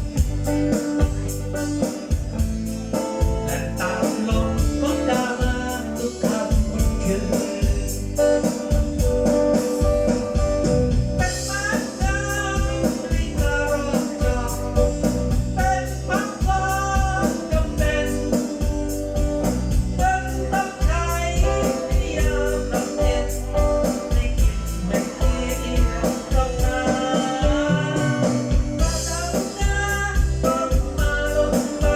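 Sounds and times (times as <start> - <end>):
bass pulsing in a steady beat: 0.0 - 31.9
song with singing and guitar: 0.0 - 31.9.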